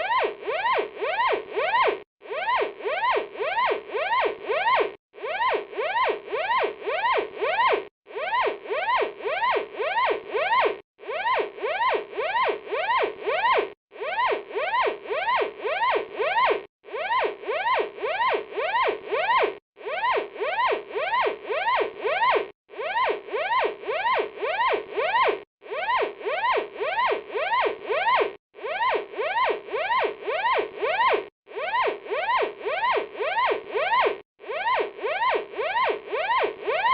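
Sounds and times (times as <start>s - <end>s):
fire alarm rising electronic sweep: 0.0s - 36.9s.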